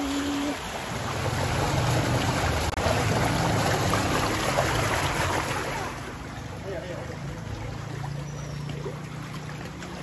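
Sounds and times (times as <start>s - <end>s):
water rushing through channel: 0.0s - 10.0s.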